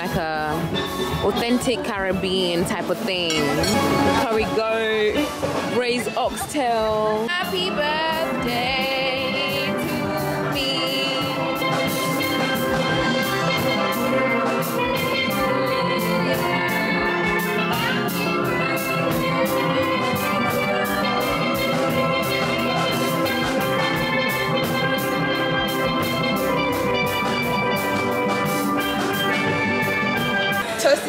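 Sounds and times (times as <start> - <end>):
steady drum beat: 0.0 - 31.0
steel pan music: 0.0 - 31.0.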